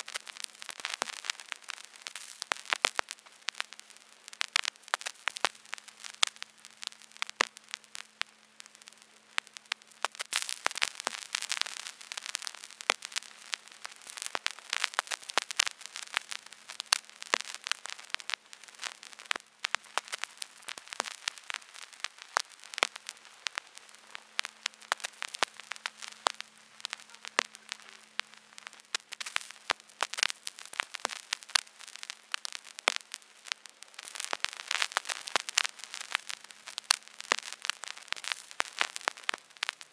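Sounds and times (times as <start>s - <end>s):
soft hiss: 0.0s - 39.9s
vinyl crackles and pops: 0.0s - 39.9s.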